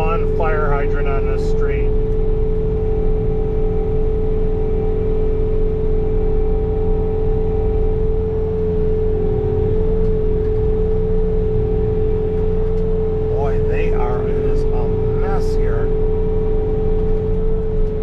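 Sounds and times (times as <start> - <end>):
diesel engine droning: 0.0 - 18.0
snow blower whine: 0.0 - 18.0.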